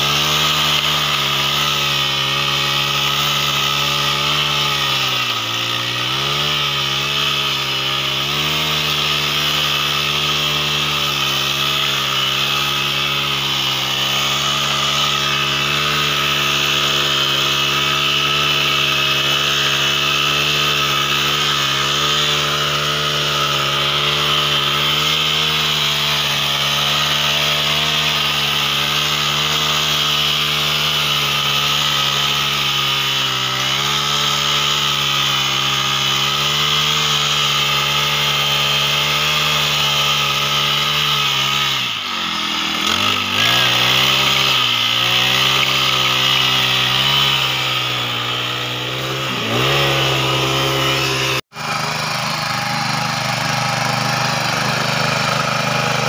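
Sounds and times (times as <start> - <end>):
small petrol engine running: 0.0 - 56.0
tines churning through soil: 0.0 - 56.0.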